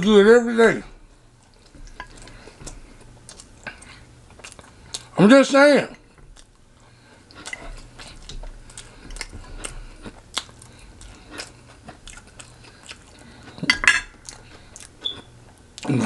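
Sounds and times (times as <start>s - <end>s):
crunchy chewing of fried chicken: 1.0s - 5.2s, 6.0s - 16.0s.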